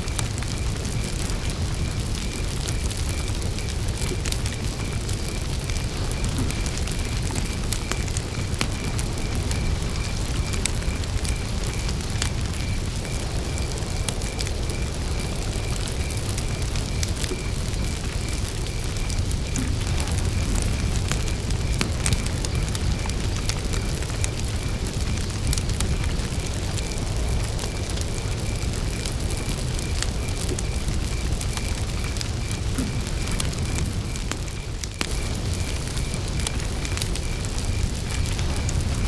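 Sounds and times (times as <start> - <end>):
campfire crackling: 0.0 - 39.0
cricket chirping: 0.0 - 39.0.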